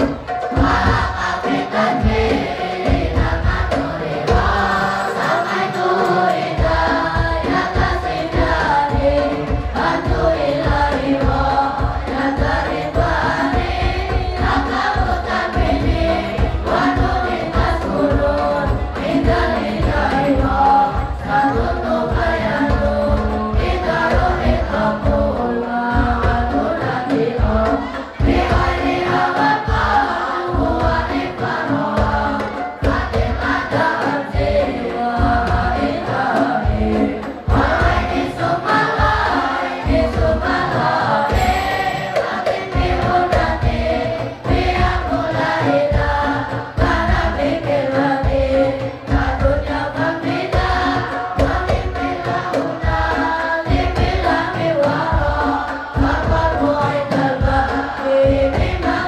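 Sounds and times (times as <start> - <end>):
boys singing in unison: 0.0 - 59.0.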